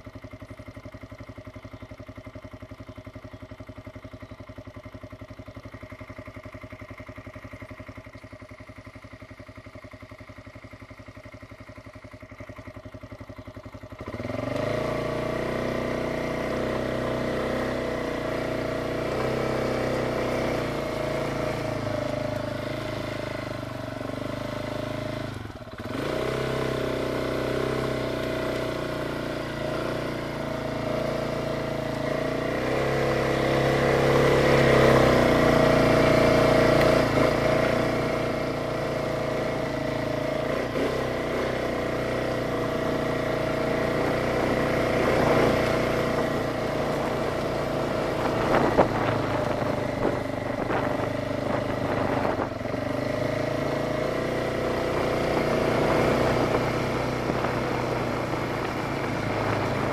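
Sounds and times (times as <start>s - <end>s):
quad engine running: 0.0s - 59.9s.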